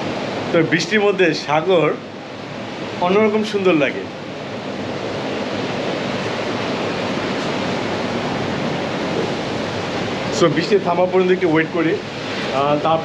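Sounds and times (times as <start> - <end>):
steady rain downpour: 0.0 - 13.0.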